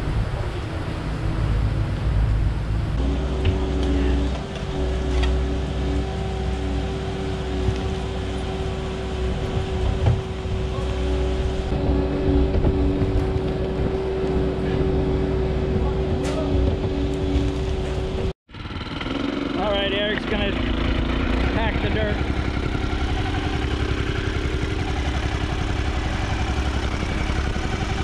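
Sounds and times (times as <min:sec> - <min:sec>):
diesel engine rumbling: 0:00.0 - 0:28.0
steady machine whine: 0:00.0 - 0:28.0.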